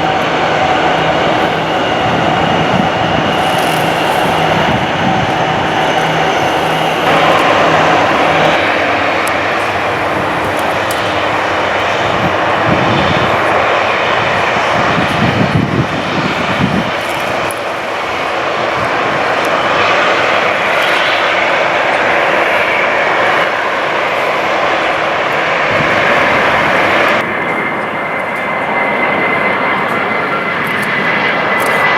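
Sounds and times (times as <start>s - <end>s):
airliner engines roaring: 0.0s - 31.9s.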